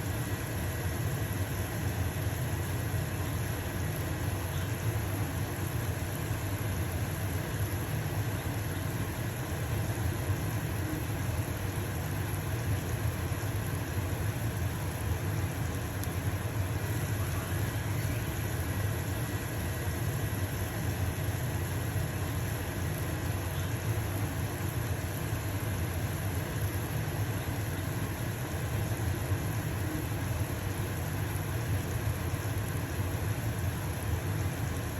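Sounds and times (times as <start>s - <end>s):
exhaust fan humming: 0.0s - 34.9s.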